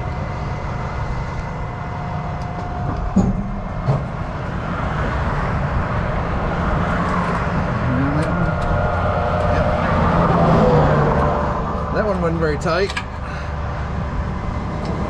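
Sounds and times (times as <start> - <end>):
highway traffic rumble: 0.0 - 15.0
vehicle approaching: 0.0 - 15.0.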